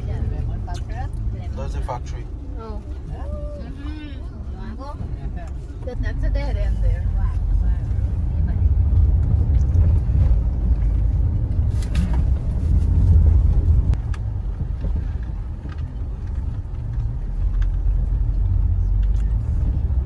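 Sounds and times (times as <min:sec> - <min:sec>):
car driving from inside cabin: 0:00.0 - 0:20.0.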